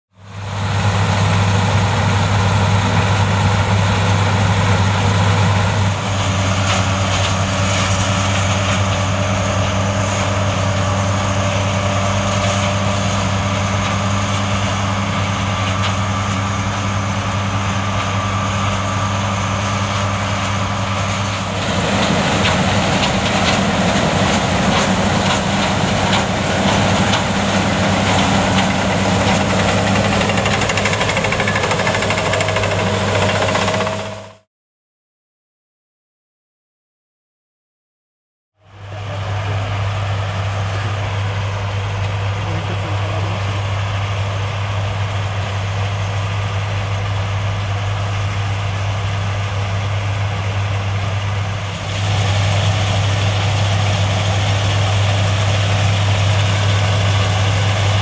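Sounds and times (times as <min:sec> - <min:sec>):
combine harvester running: 0:00.2 - 0:34.4, 0:38.6 - 0:58.0.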